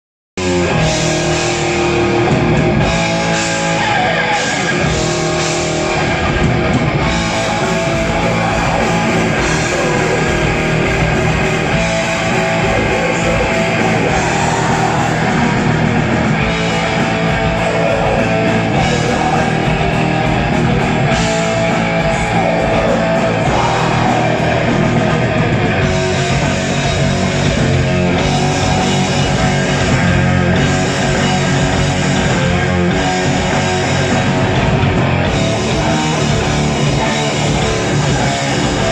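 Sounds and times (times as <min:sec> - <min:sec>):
loud electric guitars: 0:00.4 - 0:38.9
metal band playing live: 0:00.4 - 0:38.9.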